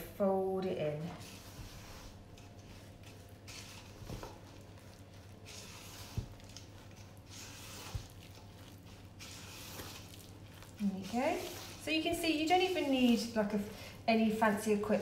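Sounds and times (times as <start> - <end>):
spatula squelching and scraping batter: 0.6 - 13.7.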